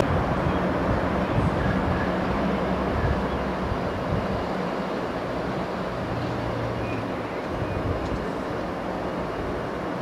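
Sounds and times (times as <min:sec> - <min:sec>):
constant rushing noise: 0:00.0 - 0:10.0
train equipment humming: 0:00.0 - 0:10.0.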